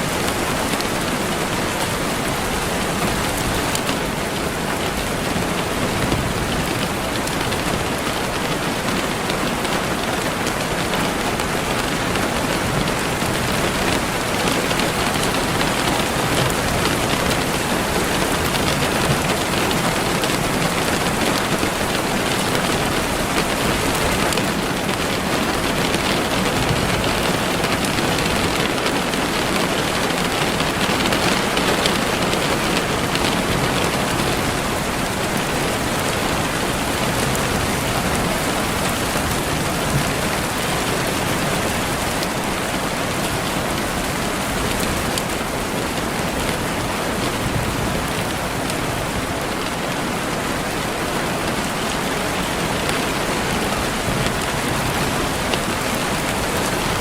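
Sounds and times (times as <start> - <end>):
gentle rain falling: 0.0 - 57.0.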